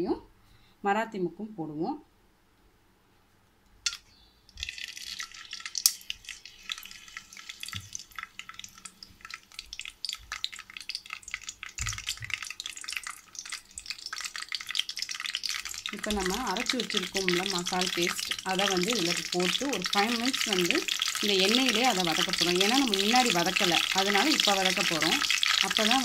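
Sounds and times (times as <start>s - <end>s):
leaves crackling in hot oil: 3.9s - 26.0s.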